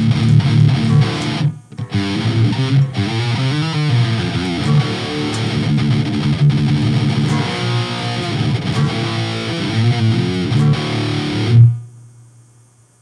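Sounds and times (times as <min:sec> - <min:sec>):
distorted electric guitar riffs: 0:00.0 - 0:12.1.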